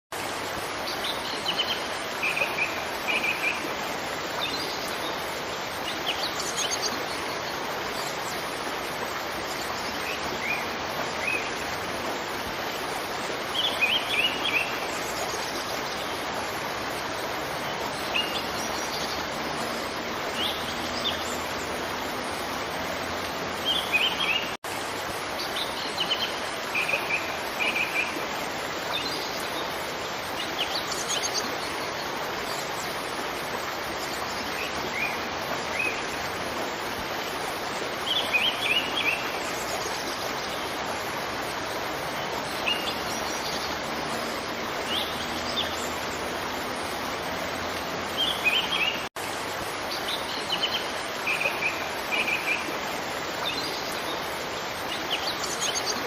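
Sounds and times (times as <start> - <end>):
waterfall rushing: 0.1 - 56.0.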